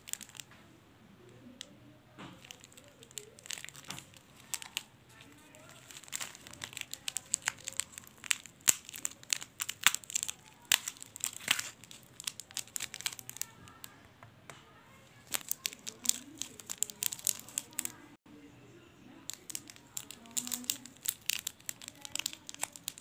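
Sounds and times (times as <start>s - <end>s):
foil sachets crinkling: 0.0s - 0.5s, 2.3s - 14.0s, 15.2s - 18.0s, 19.2s - 23.0s.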